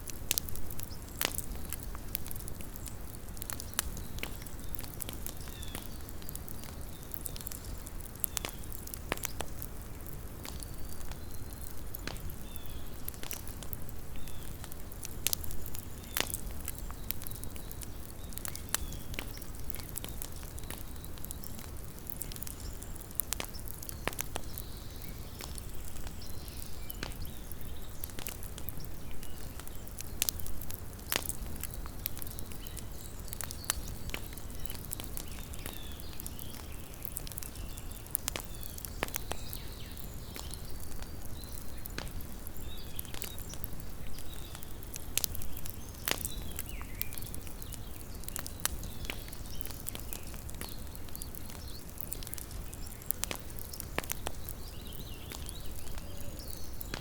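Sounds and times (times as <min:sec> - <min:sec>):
campfire crackling: 0:00.0 - 0:57.0
fire popping: 0:00.0 - 0:57.0.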